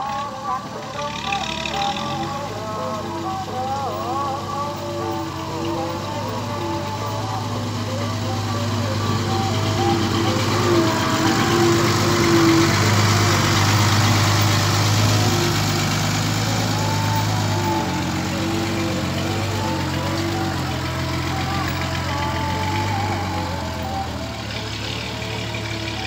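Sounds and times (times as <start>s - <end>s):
diesel truck engine: 0.0s - 26.0s.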